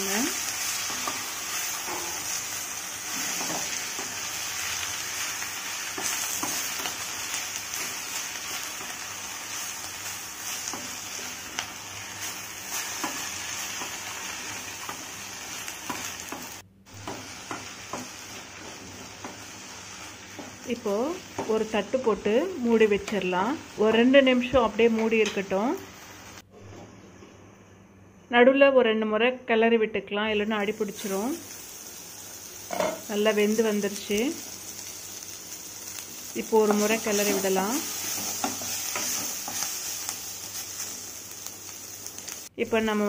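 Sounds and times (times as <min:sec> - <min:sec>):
leaves sizzling in hot oil: 0:00.0 - 0:26.4, 0:30.5 - 0:43.0.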